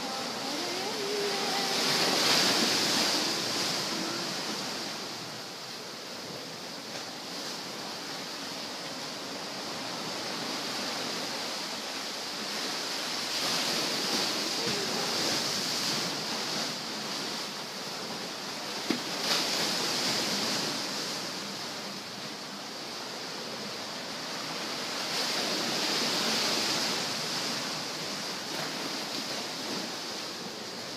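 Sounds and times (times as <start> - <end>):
small waves washing onto beach: 0.0 - 30.9.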